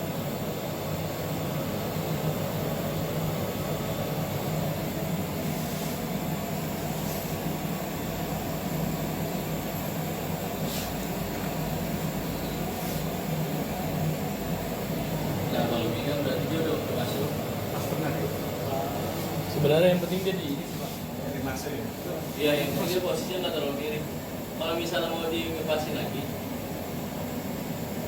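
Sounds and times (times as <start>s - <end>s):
laboratory equipment humming: 0.0s - 28.0s.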